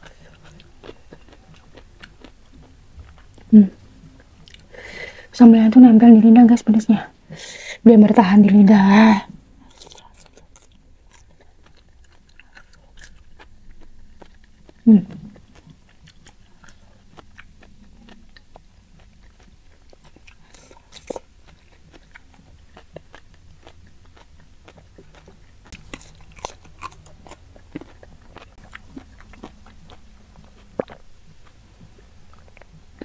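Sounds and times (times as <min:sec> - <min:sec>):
chewing and biting food: 0:00.0 - 0:04.7, 0:09.6 - 0:33.0.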